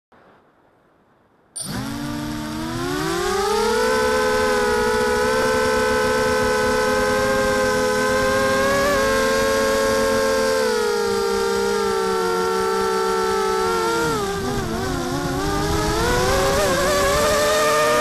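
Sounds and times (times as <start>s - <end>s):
drone motors whining: 1.6s - 18.0s.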